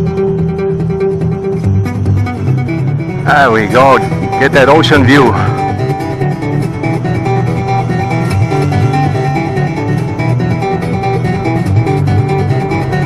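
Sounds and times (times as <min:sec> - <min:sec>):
low bass line: 0:00.0 - 0:13.0
plucked guitar tune: 0:00.0 - 0:13.0.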